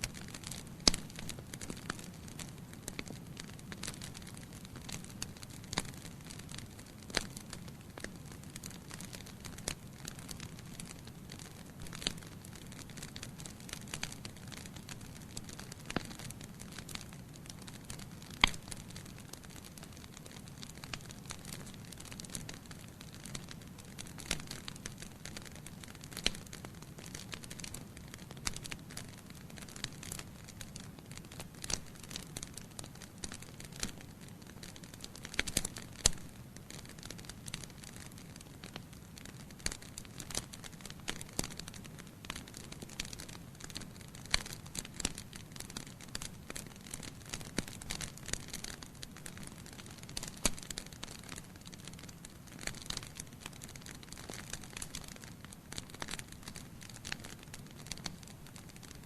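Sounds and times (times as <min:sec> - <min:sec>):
logs crackling and popping: 0:00.0 - 0:59.0.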